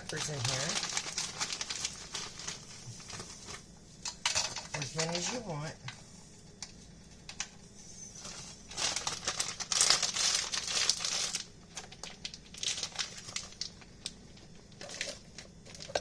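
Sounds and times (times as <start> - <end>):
crinkling and rustling: 0.0 - 3.7, 4.3 - 6.0, 8.2 - 16.0.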